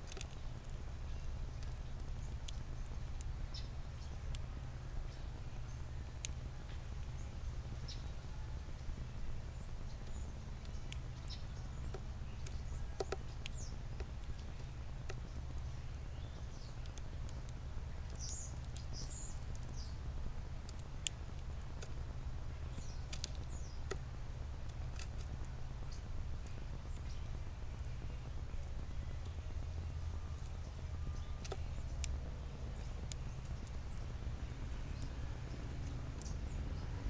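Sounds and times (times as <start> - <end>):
small birds chirping: 0.0 - 37.0
steady low rumble: 0.0 - 37.0.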